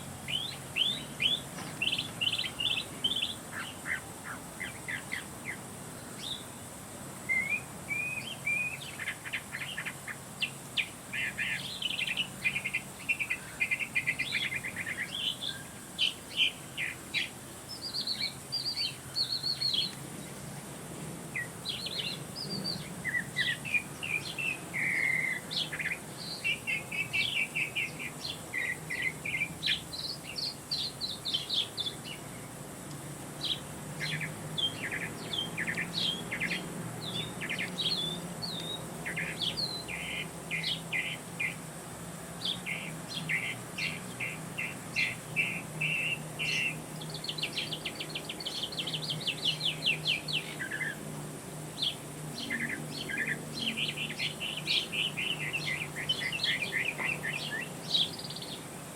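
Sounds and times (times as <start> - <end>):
faint steady low hum: 0.0 - 58.9
songbirds singing and chirping: 0.0 - 58.9.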